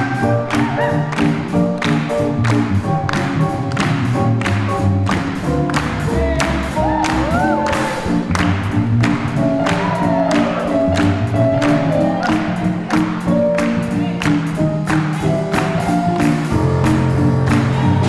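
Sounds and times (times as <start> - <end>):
drums keeping steady beat: 0.0 - 18.0
swing jazz band playing: 0.0 - 18.0.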